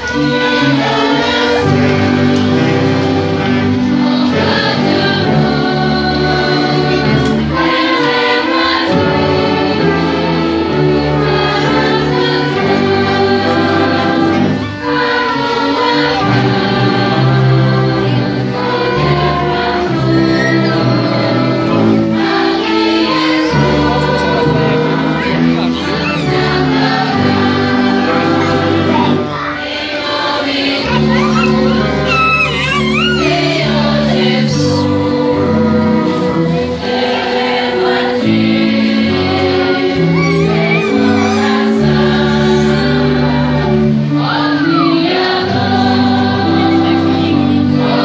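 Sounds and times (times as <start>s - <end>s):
choir singing a hymn: 0.0s - 48.0s
wind and string orchestra: 0.0s - 48.0s.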